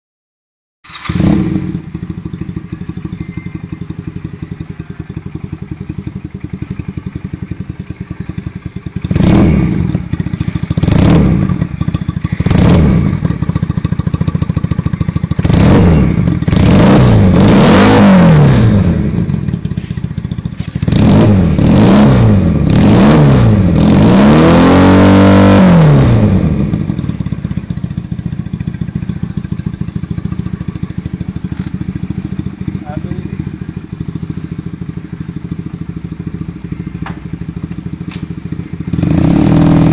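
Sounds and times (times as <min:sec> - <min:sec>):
motorcycle engine idling and revving: 0:00.8 - 0:39.9.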